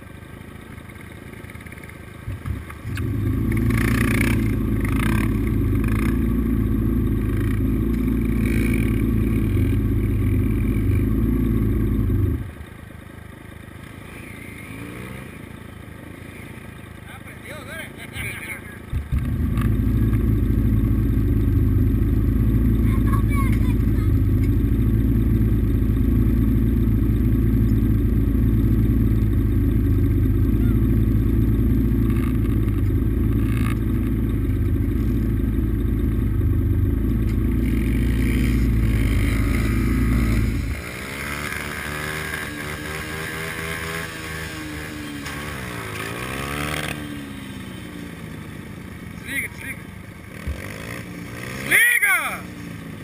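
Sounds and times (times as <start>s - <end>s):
dirt bike engine idling: 0.0s - 53.0s
small dirt bike engine revving: 2.3s - 12.5s, 13.9s - 16.8s, 19.0s - 27.7s, 28.4s - 34.3s, 35.0s - 49.6s, 50.3s - 53.0s.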